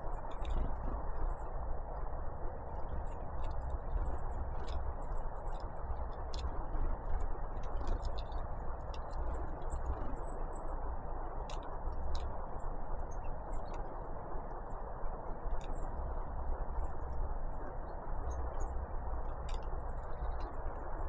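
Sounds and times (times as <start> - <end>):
songbirds ticking and chirping: 0.0 - 21.0.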